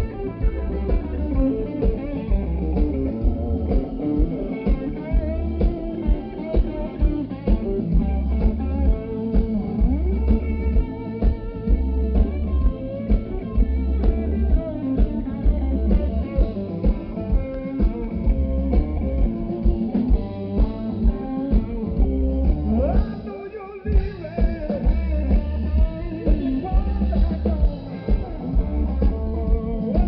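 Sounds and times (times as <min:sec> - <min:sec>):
bass guitar: 0:00.0 - 0:30.0
blues guitar lead with bent notes: 0:00.0 - 0:30.0
steady drum beat: 0:00.0 - 0:30.0.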